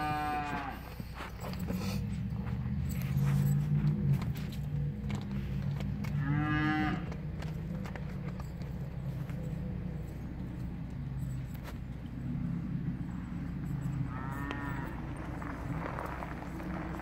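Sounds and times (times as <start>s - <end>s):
cattle lowing: 0.0s - 17.0s.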